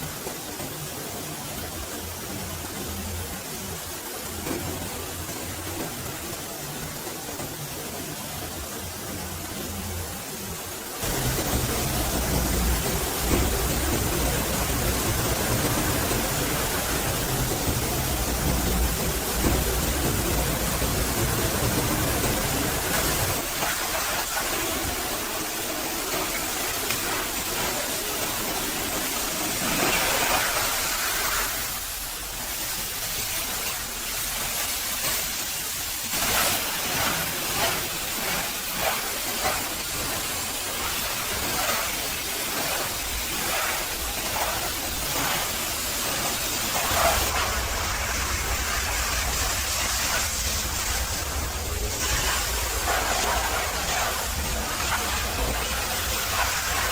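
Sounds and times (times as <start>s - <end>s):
pressure washer jet spraying water: 10.3s - 56.9s.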